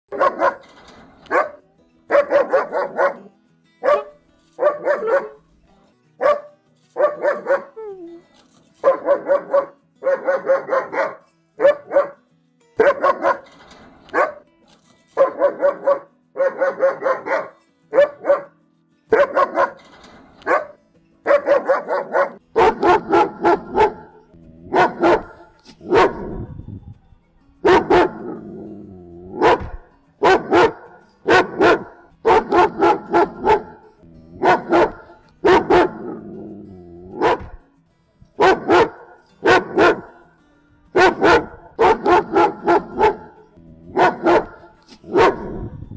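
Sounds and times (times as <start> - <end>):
dog barking: 0.1 - 5.4, 6.2 - 7.8, 8.8 - 12.2, 12.8 - 13.5, 14.1 - 14.4, 15.2 - 19.8, 20.4 - 26.5, 27.6 - 28.4, 29.3 - 36.3, 37.1 - 37.6, 38.4 - 40.2, 41.0 - 45.7.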